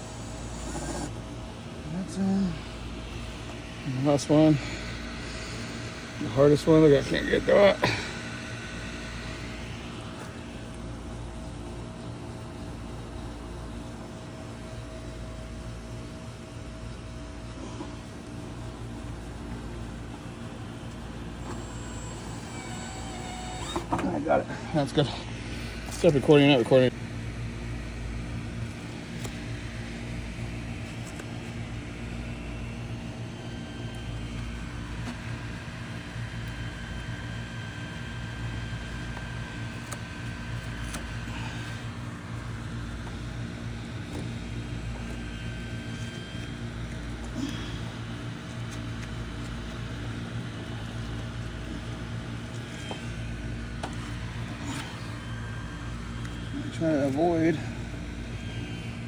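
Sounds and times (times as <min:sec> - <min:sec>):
motor humming: 0:00.0 - 0:15.2, 0:17.5 - 0:59.0.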